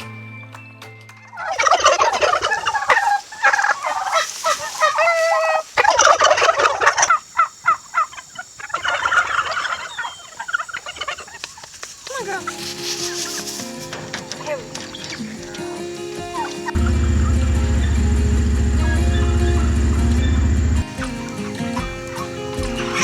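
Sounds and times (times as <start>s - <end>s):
farm poultry calling: 1.3s - 23.0s.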